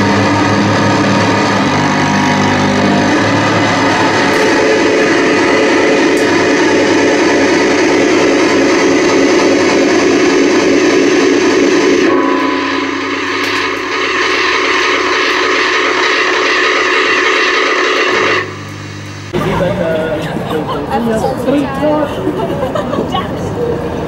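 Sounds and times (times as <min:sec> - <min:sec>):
loud drone-noise music: 0:00.0 - 0:19.9.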